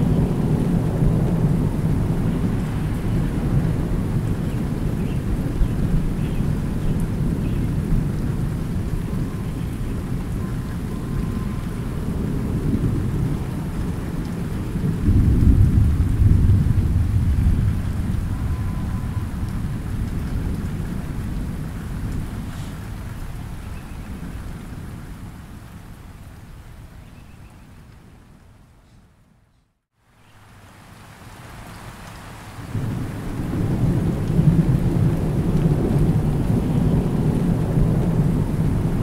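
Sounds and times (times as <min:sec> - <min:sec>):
thunder rumbling: 0:00.0 - 0:25.4, 0:32.7 - 0:39.0
light rain on a pond: 0:00.0 - 0:39.0.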